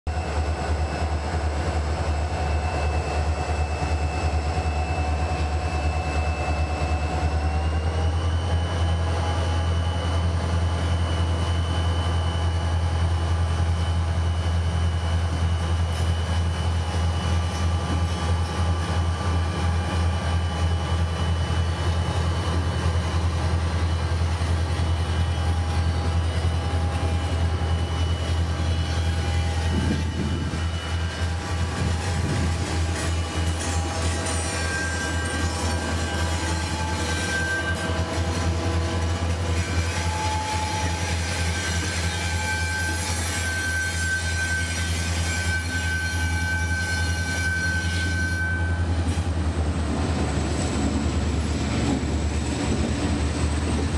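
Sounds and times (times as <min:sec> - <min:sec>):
locomotive engine drone and whine: 0:00.1 - 0:53.9.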